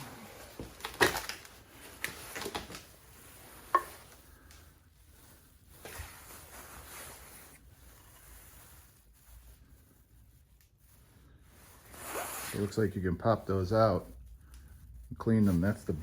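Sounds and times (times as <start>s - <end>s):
soft rubbing: 1.5s - 16.0s.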